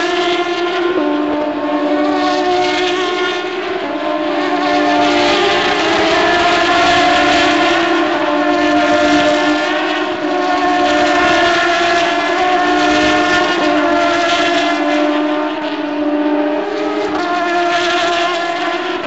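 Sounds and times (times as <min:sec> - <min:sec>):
race car engines at high revs: 0:00.0 - 0:19.0.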